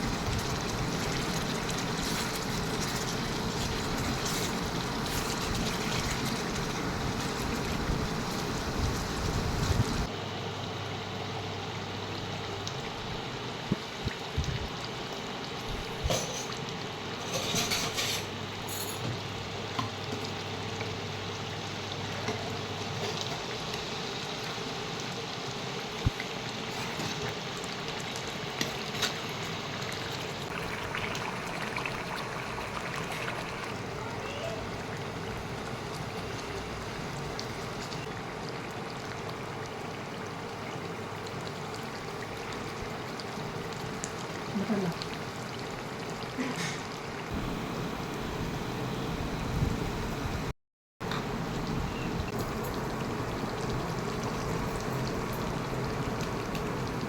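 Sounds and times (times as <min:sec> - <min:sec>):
food sizzling in a pan: 0:00.0 - 0:10.1, 0:11.2 - 0:49.6.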